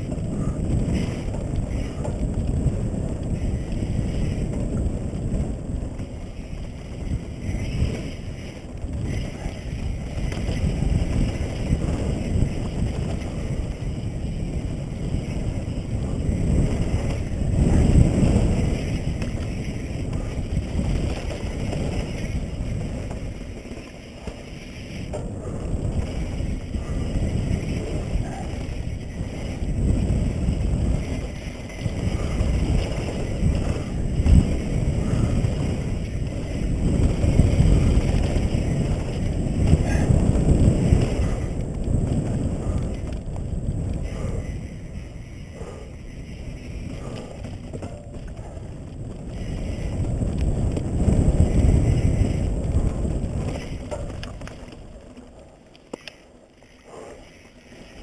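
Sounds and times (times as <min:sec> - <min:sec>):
bike tyres rumbling over dirt: 0:00.0 - 0:58.0
wind buffeting microphone: 0:00.0 - 0:58.0.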